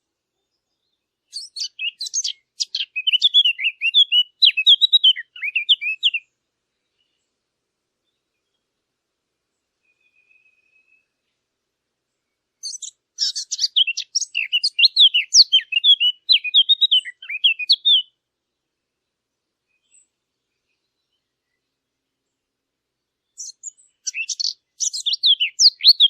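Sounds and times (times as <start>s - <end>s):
songbird chirping and trilling: 0.0s - 26.0s.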